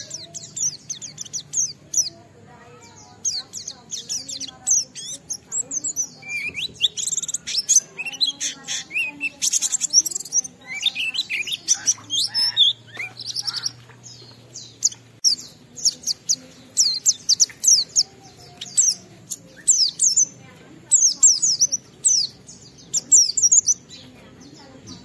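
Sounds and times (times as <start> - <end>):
bird singing rapid chirps: 0.0 - 25.0.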